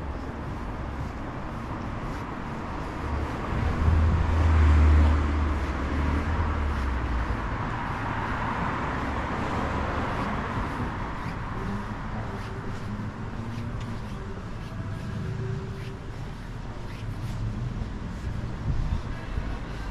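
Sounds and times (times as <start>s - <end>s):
steady traffic noise: 0.0s - 19.9s
vehicle passing with engine rumble: 0.0s - 19.9s.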